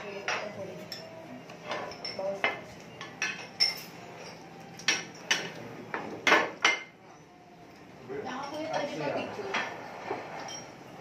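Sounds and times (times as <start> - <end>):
utensils clinking on ceramic plates: 0.0 - 7.4, 8.3 - 11.0.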